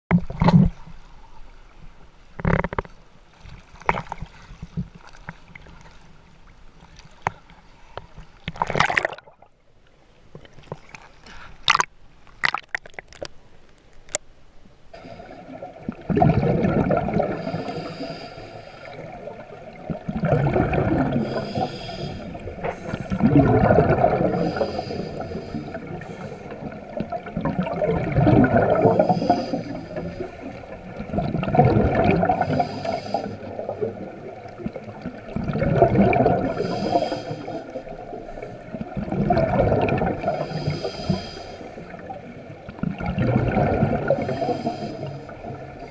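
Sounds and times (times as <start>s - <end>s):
underwater bubbling and gurgling: 0.1s - 45.9s
small waves splashing: 0.2s - 14.3s, 14.9s - 45.9s.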